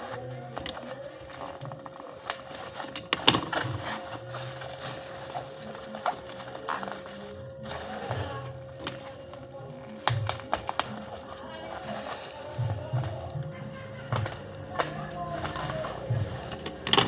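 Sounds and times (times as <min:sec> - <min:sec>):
laptop and packaging handled: 0:00.0 - 0:17.0.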